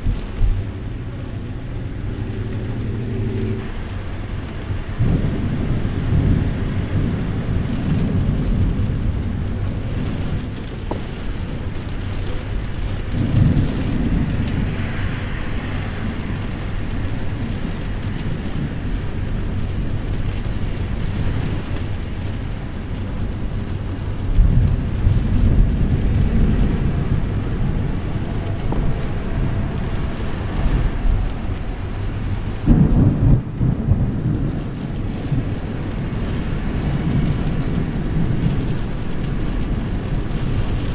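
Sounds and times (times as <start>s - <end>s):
steady rain: 0.0s - 40.9s
thunder rumbling: 0.0s - 40.9s.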